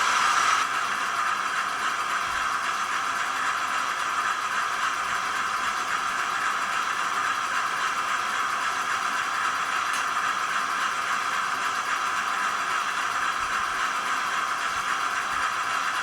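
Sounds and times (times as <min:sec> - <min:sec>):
model diesel engine drone: 0:00.0 - 0:16.0.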